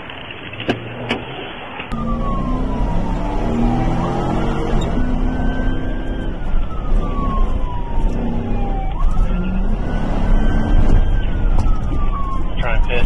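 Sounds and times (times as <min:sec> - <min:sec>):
car engine and road noise: 0:00.0 - 0:13.0
police siren wailing: 0:01.9 - 0:13.0.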